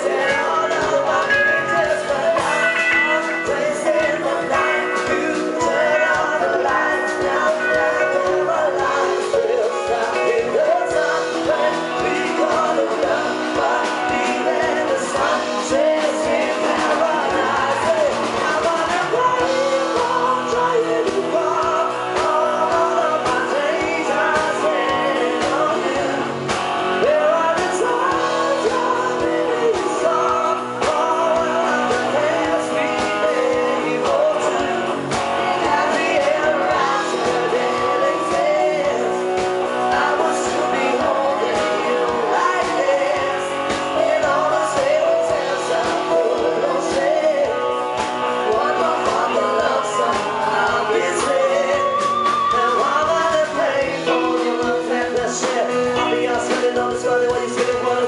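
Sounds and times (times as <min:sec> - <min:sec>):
pop-rock song with singing: 0:00.0 - 0:58.0.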